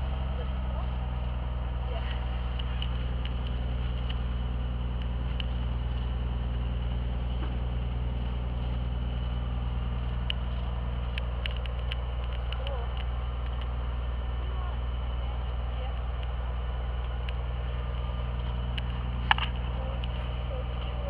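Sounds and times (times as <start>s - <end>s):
propeller aircraft engine running: 0.0s - 21.0s.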